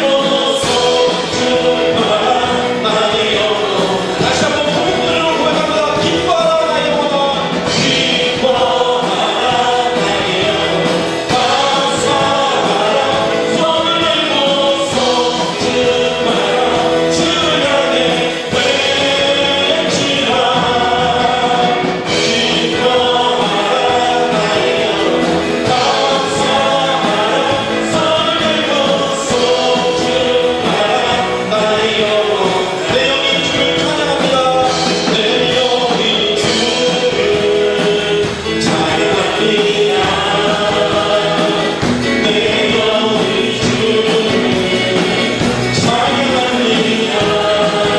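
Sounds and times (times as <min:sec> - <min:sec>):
band with steady beat: 0:00.0 - 0:47.9
group of voices singing: 0:00.0 - 0:47.9.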